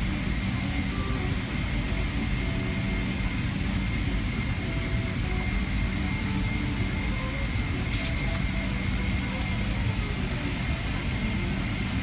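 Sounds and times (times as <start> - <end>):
aircraft cabin rumble: 0.0 - 12.0
faint high whine: 0.0 - 12.0.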